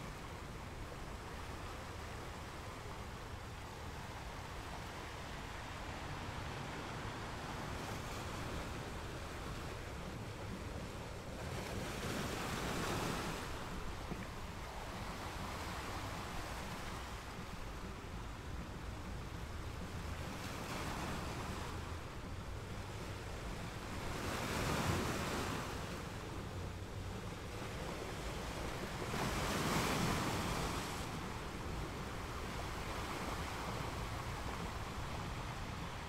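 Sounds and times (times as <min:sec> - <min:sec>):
large waves surging in: 0:00.0 - 0:36.0
steady wash of surf: 0:00.0 - 0:36.0
waves breaking on shore: 0:00.0 - 0:36.0.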